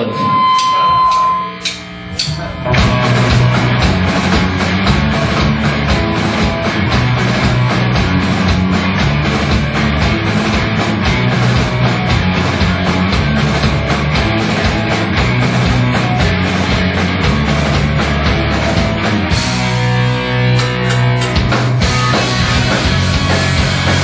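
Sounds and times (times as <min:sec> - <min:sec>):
drum kit beat: 0:00.0 - 0:24.0
electric guitars: 0:00.0 - 0:24.0.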